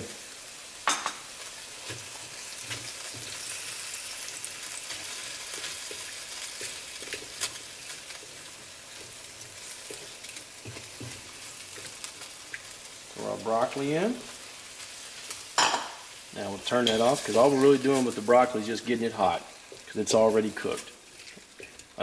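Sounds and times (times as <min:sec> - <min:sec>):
chicken sizzling in a wok: 0:00.0 - 0:22.0.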